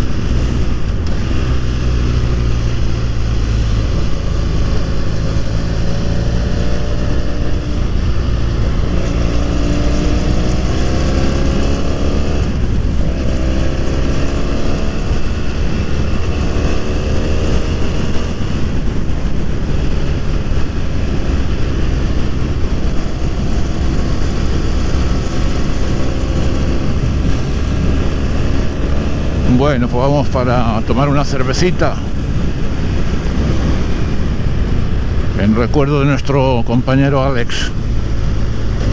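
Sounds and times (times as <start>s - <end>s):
motorcycle engine accelerating: 0.0s - 38.9s
wind rumble on microphone: 0.0s - 38.9s.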